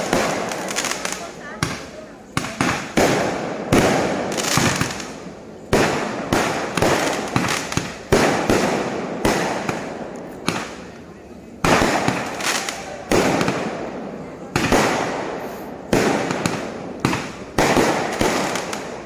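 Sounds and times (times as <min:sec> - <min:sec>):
fireworks banging: 0:00.0 - 0:19.0
fireworks popping: 0:00.0 - 0:19.0.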